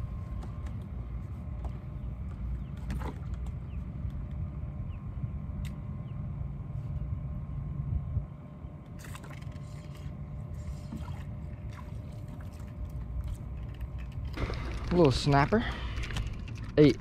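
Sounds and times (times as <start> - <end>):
low rumble of wind: 0.0 - 17.0
water around a boat: 0.0 - 17.0.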